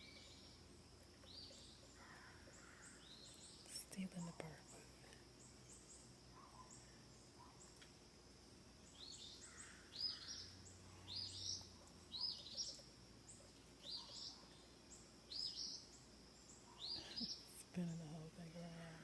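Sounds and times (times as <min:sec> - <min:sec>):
songbird chirping: 0:00.0 - 0:19.0.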